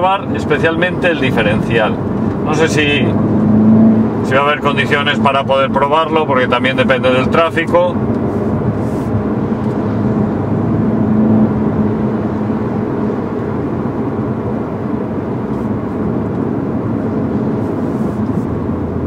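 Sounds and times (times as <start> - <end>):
car engine cruising: 0.0 - 19.0.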